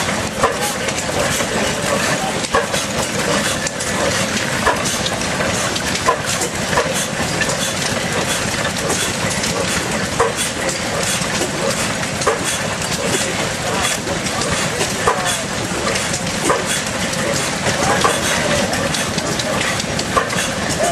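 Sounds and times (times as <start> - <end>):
stationary engine clattering: 0.0 - 20.9.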